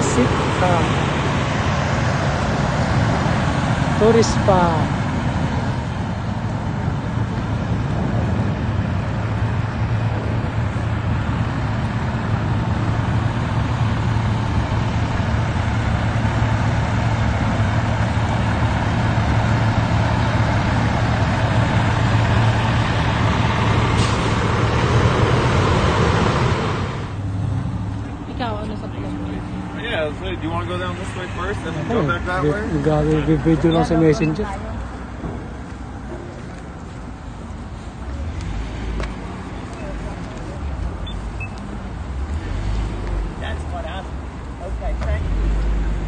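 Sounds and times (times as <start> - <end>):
large vehicle engine hum: 0.0 - 46.0
street traffic noise: 0.0 - 46.0.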